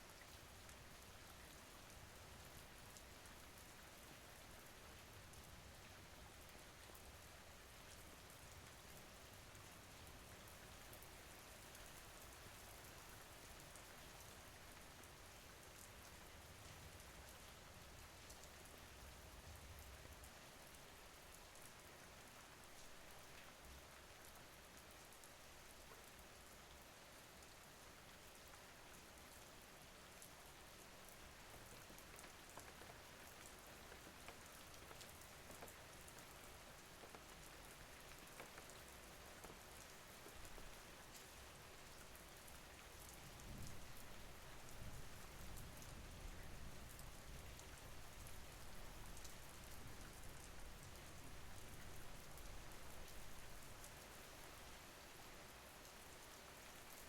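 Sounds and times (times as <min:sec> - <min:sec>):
faint rain falling: 0:00.0 - 0:57.0.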